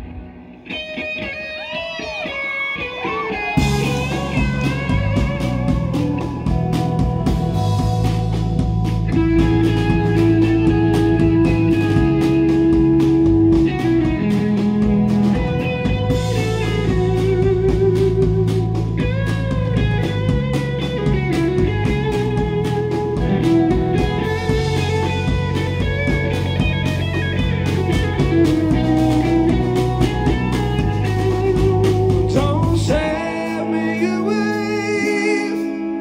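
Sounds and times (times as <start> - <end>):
steady drum beat: 0.0 - 35.8
bass guitar: 0.0 - 36.0
electric guitar long notes: 0.0 - 36.0.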